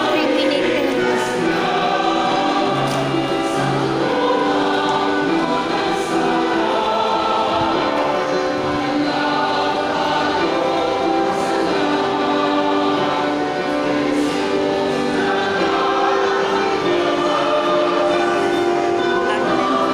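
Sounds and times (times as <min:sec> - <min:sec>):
choir singing a hymn: 0:00.0 - 0:19.9.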